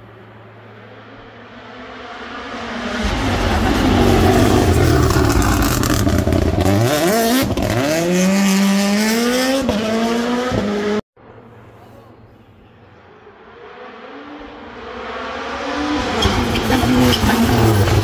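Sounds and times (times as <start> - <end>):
rally car engine accelerating: 0.7 - 11.0, 13.5 - 18.0.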